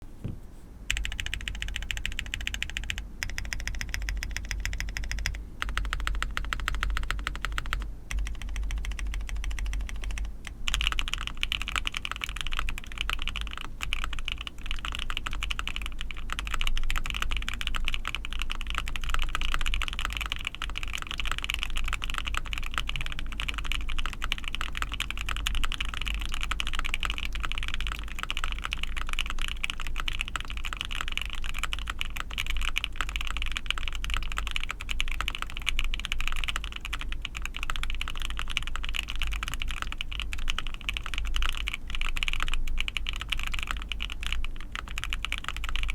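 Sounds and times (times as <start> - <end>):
mechanical keyboard typing: 0.9 - 45.9.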